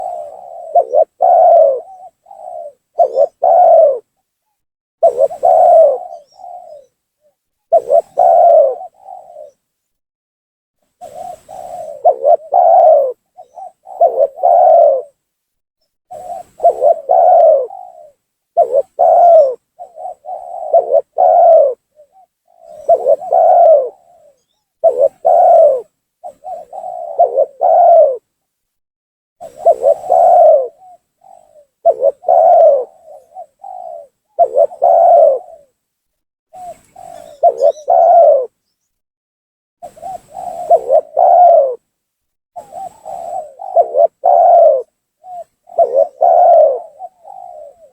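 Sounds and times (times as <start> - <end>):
dove cooing: 0.0 - 9.6, 11.0 - 15.2, 16.1 - 28.3, 29.4 - 35.8, 36.6 - 38.8, 39.8 - 41.8, 42.6 - 47.9.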